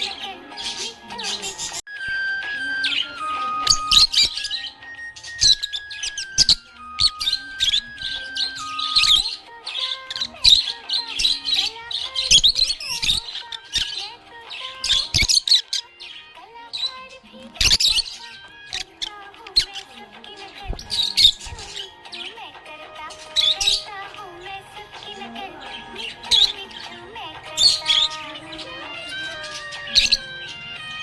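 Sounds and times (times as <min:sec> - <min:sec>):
background music of held notes: 0:00.0 - 0:31.0
budgerigars chirping and warbling: 0:00.0 - 0:31.0.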